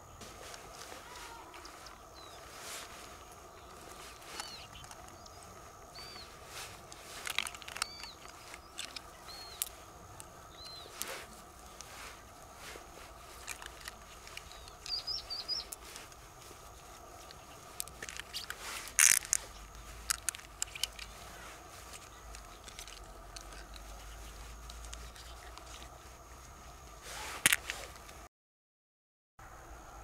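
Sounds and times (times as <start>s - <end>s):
bird chirping: 0.0s - 26.0s
gloved hands clicking and rustling: 0.4s - 28.3s.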